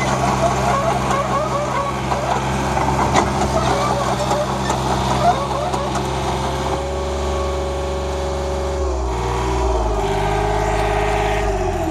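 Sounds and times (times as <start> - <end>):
whining tone: 0.0 - 7.6, 8.9 - 11.9
excavator engine running: 0.0 - 11.9.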